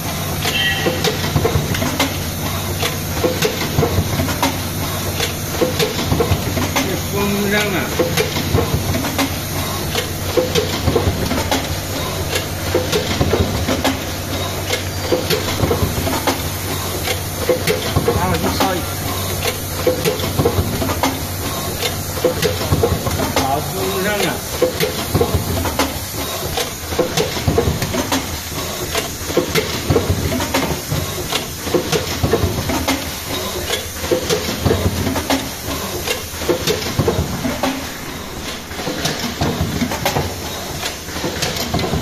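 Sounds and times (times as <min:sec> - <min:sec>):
stamping machine clattering: 0:00.4 - 0:42.0.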